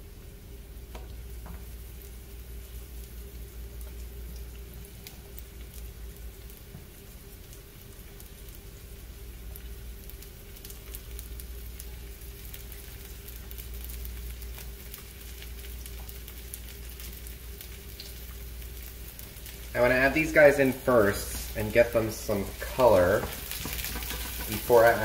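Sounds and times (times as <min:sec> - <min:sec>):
mushrooms sizzling in oil: 0:00.0 - 0:25.0.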